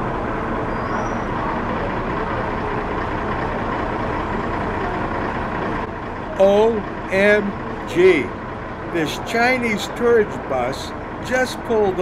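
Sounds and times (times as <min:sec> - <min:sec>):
bus engine idling roar: 0:00.0 - 0:12.0.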